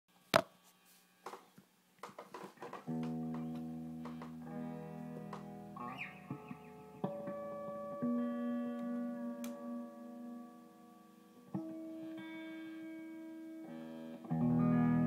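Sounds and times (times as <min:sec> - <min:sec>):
electric guitar with delay: 0:02.9 - 0:15.0.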